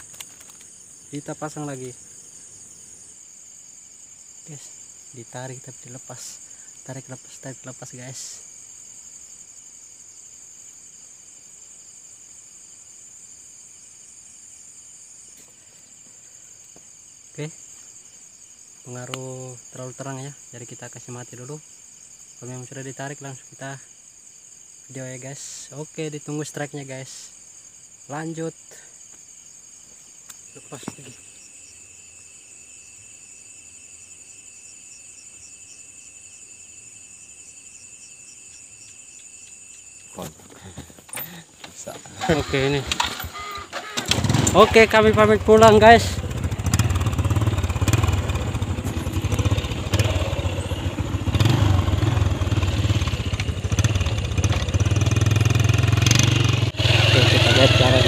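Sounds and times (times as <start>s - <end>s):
insect chorus trilling: 0.0s - 58.0s.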